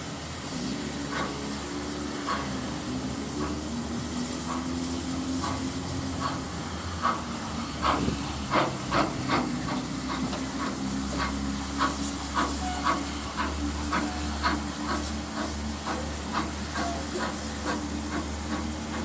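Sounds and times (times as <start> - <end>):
steam hissing: 0.0 - 19.0
steam locomotive exhaust beats: 0.0 - 19.0.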